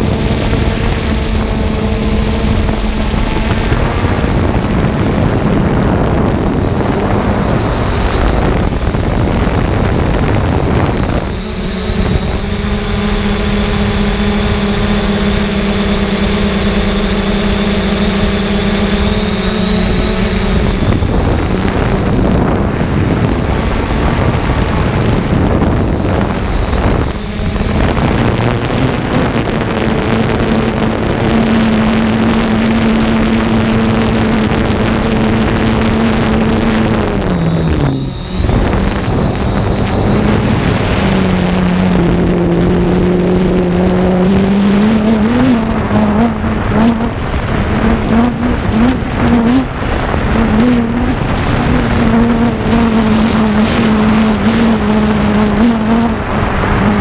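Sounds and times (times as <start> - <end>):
drone propellers whirring: 0.0 - 57.0
wind rushing on microphone: 0.0 - 57.0.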